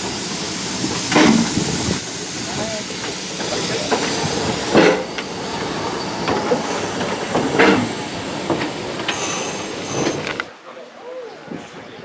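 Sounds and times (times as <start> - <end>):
steam bursts: 0.0 - 10.5
steam locomotive hissing: 0.0 - 10.5.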